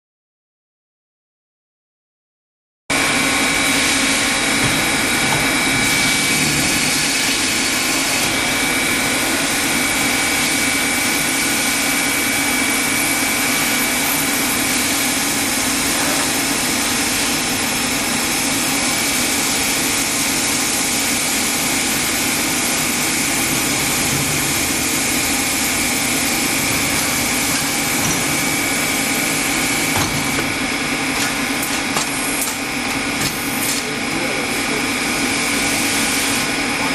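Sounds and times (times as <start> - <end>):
machine tool running with whine: 2.9 - 36.9.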